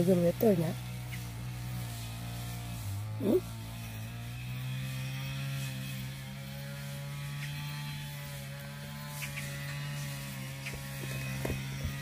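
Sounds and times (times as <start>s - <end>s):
brush cutter engine droning: 0.0s - 12.0s.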